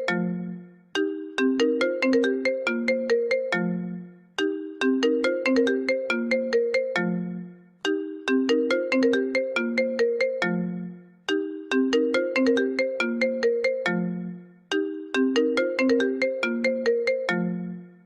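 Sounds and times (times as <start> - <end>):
phone ringtone melody: 0.0 - 18.0.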